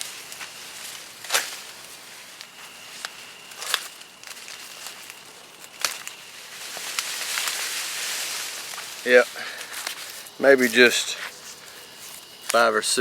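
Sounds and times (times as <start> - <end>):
corn stalks rustling and crackling: 0.0 - 13.0
footsteps through corn: 0.0 - 13.0.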